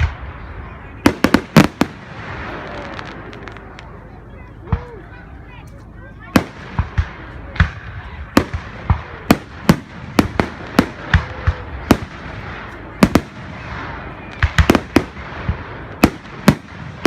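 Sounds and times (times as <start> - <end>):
fireworks bangs: 0.0 - 4.0, 6.3 - 17.0.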